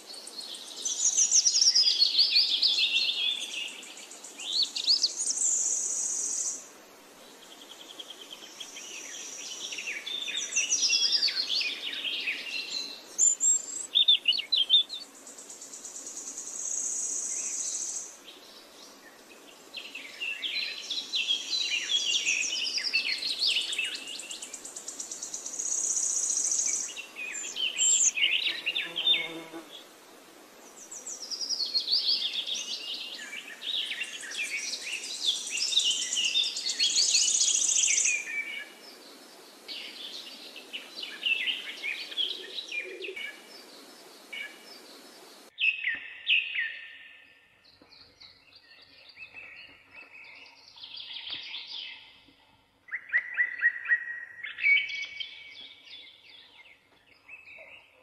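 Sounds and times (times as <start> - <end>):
songbirds chirping and singing: 0.0 - 6.6, 7.3 - 29.9, 30.6 - 58.0.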